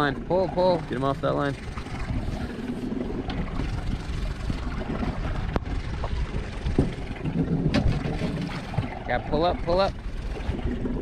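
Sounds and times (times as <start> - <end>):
boat motor running: 0.0 - 11.0
wind buffeting microphone: 0.0 - 11.0.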